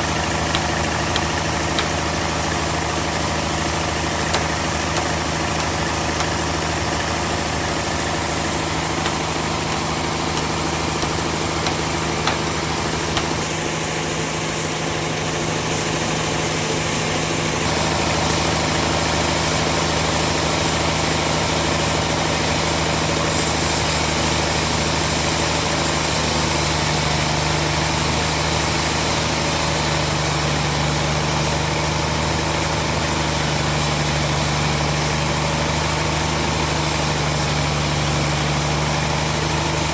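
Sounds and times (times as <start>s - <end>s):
bandsaw machinery humming: 0.0s - 15.7s, 22.9s - 39.9s.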